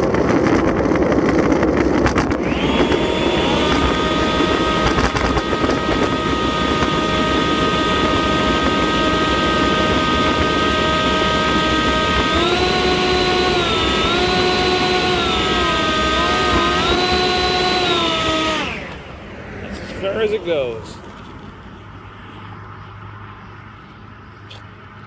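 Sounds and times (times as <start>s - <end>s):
leaf blowers running: 0.0s - 22.8s.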